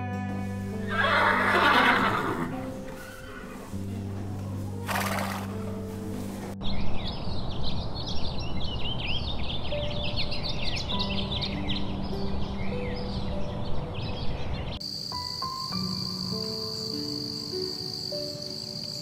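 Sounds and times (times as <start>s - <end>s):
steady outdoor hiss: 0.2s - 19.0s.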